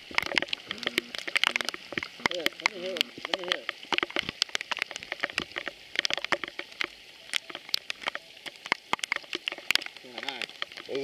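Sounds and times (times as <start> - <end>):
water drops pattering on a lake: 0.0 - 11.0.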